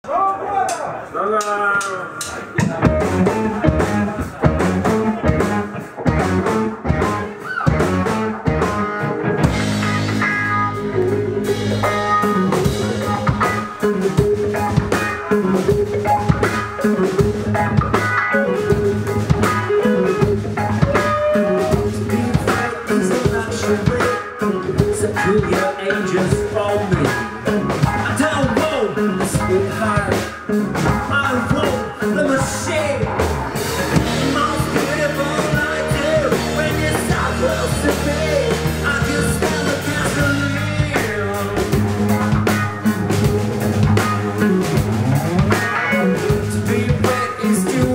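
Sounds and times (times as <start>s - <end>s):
drum kit: 0.6s - 47.9s
bass guitar: 2.2s - 47.9s
electric guitar: 2.2s - 47.9s.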